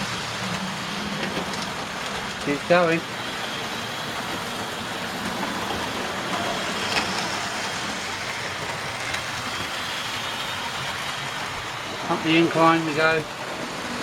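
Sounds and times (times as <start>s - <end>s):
model train motor rumbling: 0.0s - 14.0s.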